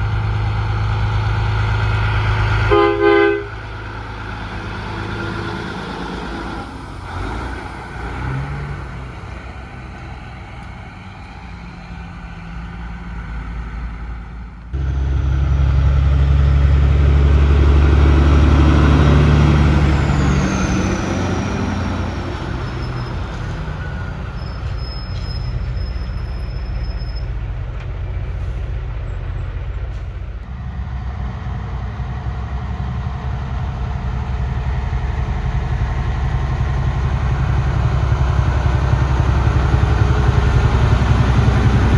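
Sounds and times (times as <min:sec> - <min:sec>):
diesel trucks passing: 0:00.0 - 0:41.9.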